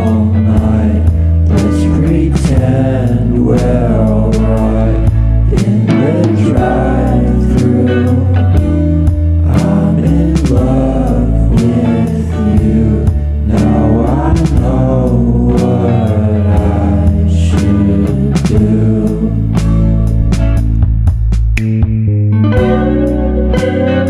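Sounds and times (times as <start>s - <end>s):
song with vocals guitar and beat: 0.0s - 24.0s.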